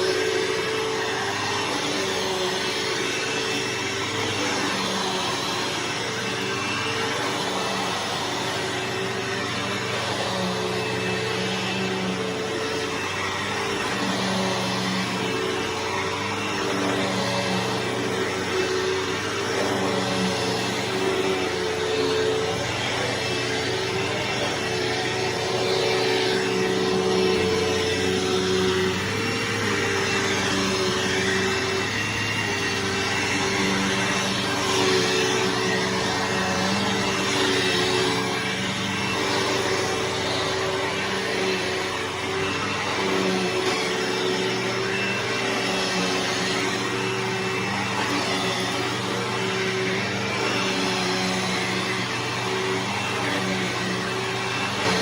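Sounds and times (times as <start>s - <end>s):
noisy vacuum brush roll: 0.0s - 55.0s
upright vacuum cleaner running: 0.0s - 55.0s.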